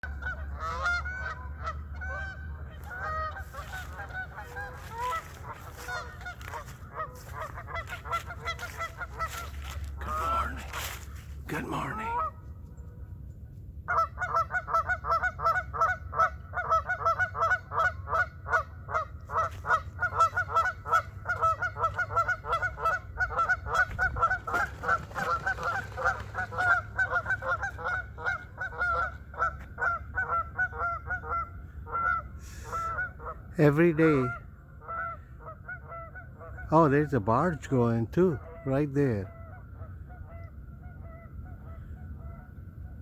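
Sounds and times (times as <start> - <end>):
geese honking: 0.0 - 12.5, 13.9 - 42.9.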